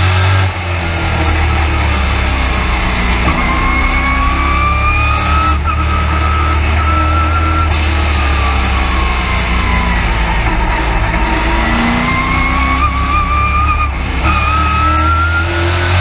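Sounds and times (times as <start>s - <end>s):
truck engine running hard: 0.0s - 16.0s
low rumble: 0.2s - 15.6s.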